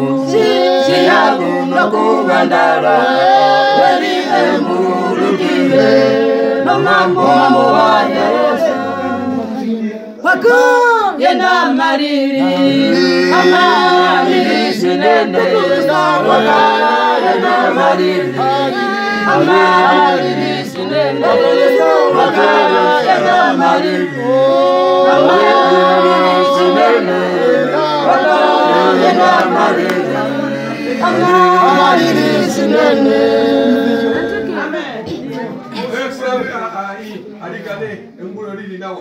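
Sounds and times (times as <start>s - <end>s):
choir singing a hymn: 0.0s - 35.4s.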